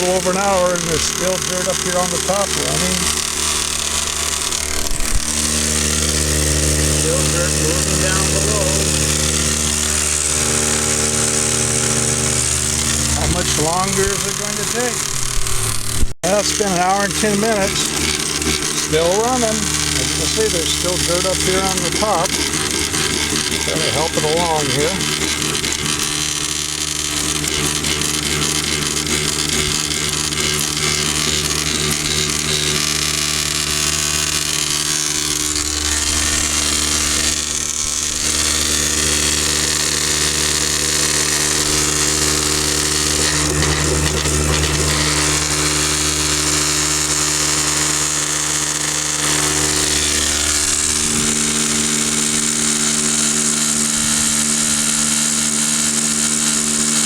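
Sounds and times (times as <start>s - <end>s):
motor buzzing: 0.0s - 57.0s.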